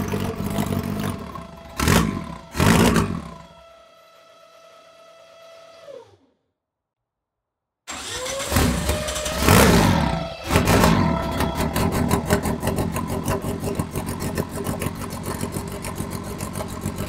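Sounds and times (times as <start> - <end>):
engine cranking and starting: 0.0 - 6.4, 7.9 - 17.0
engine winding down: 0.0 - 6.4, 7.9 - 17.0.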